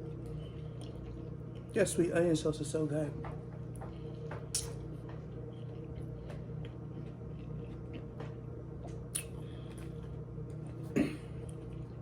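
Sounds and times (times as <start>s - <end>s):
person chewing food: 0.0s - 1.8s, 3.6s - 12.0s
steady hum: 0.0s - 12.0s.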